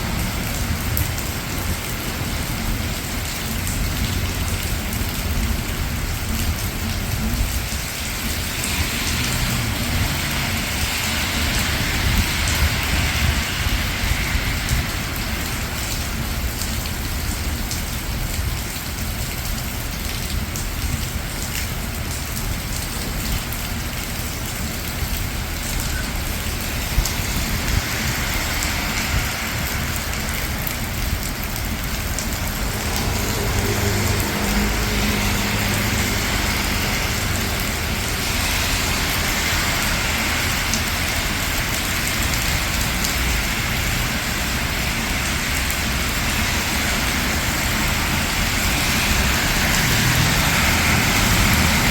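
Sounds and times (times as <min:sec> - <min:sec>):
rain on a street: 0:00.0 - 0:51.9
traffic rumble: 0:00.0 - 0:51.9.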